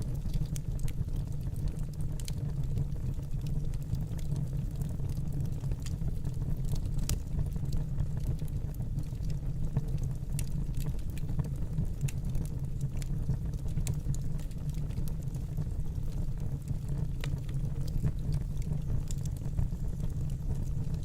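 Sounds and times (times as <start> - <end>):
burning wood crackling and popping: 0.0 - 21.0
low rumble of fire flames: 0.0 - 21.0.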